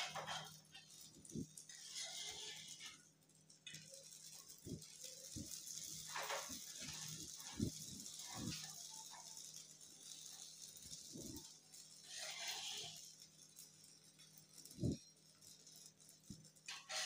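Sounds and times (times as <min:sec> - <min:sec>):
metal spatula scraping: 0:00.0 - 0:03.1, 0:03.7 - 0:17.0
faint sizzling on hot griddle: 0:00.0 - 0:17.0.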